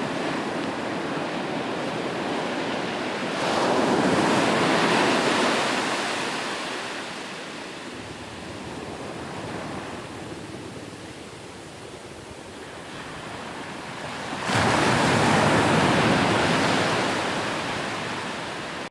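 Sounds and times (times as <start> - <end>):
sea waves breaking on shore: 0.0 - 11.4, 12.5 - 18.9.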